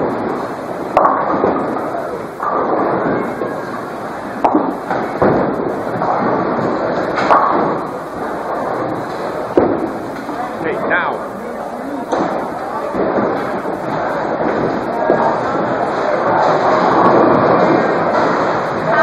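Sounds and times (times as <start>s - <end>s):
bowling balls rolling: 0.0s - 19.0s
bowling pins crashing: 0.0s - 19.0s
rumbling din: 0.0s - 19.0s.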